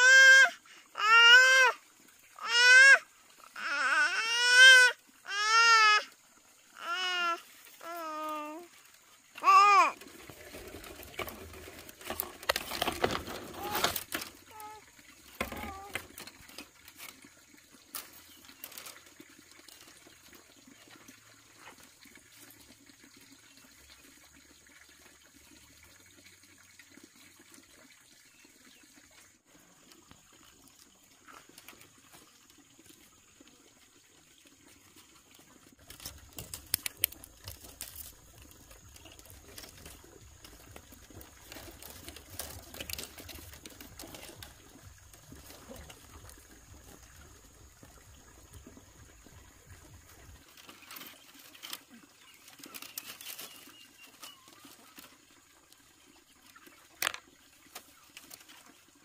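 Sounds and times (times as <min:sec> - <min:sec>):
water trickling and pouring: 0:00.0 - 0:59.0.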